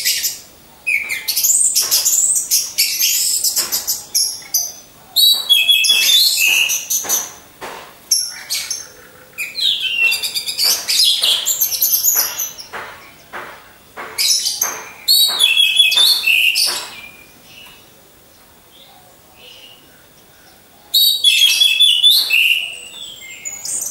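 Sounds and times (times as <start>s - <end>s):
thrush singing whistles and chatter: 0.0s - 7.4s, 8.1s - 17.9s, 20.6s - 23.9s.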